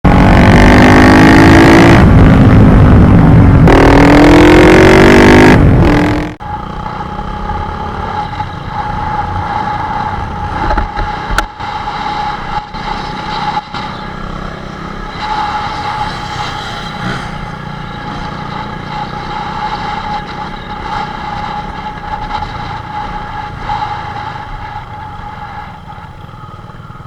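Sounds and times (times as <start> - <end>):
motorcycle engine revving: 0.1 - 27.0.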